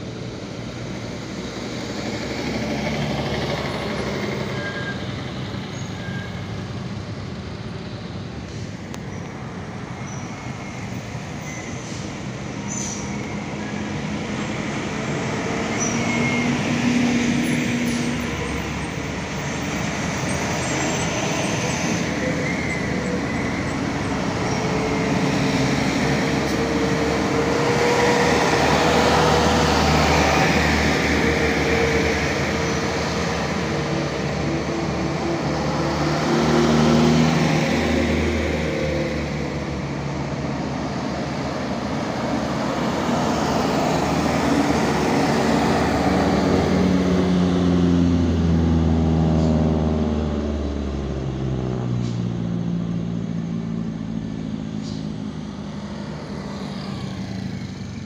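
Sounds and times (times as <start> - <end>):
diesel trucks passing: 0.0 - 58.0.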